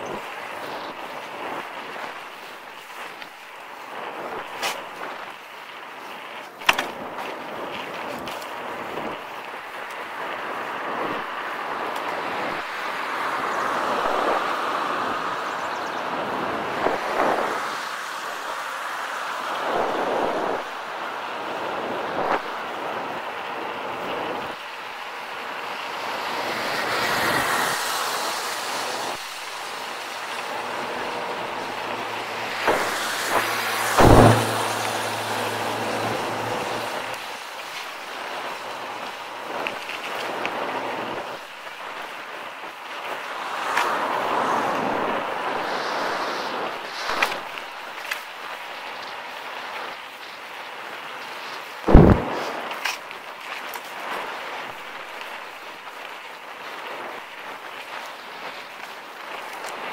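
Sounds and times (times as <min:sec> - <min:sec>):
bike rattling: 0:00.0 - 0:59.9
bike tyre rumble: 0:00.0 - 0:59.9
wind rushing over microphone: 0:00.0 - 0:59.9.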